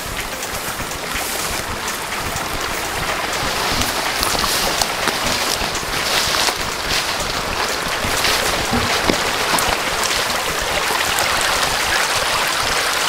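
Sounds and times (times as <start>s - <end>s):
brush and clothing rustling: 0.0s - 12.0s
footsteps through vegetation: 0.0s - 12.2s
steady hiss: 0.0s - 13.0s.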